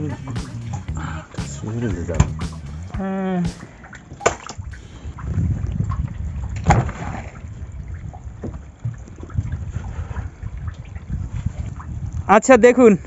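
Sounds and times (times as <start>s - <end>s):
water around a boat: 0.0s - 13.0s
wind rumble: 0.0s - 13.0s.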